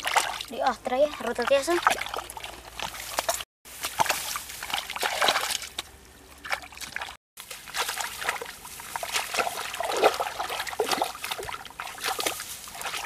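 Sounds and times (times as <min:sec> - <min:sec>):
bare feet squelching through mud: 0:00.0 - 0:13.0
water splashes: 0:00.0 - 0:13.0.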